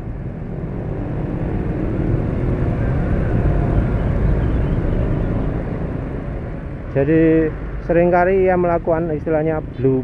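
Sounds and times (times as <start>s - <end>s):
traffic engines rumbling: 0.0s - 10.0s.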